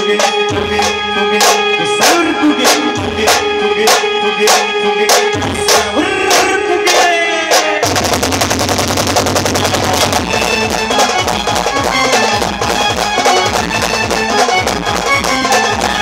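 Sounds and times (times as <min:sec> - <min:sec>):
keyboard melody: 0:00.0 - 0:08.6, 0:09.3 - 0:16.0
drum beats: 0:00.0 - 0:16.0
fast drum rolls: 0:00.7 - 0:16.0.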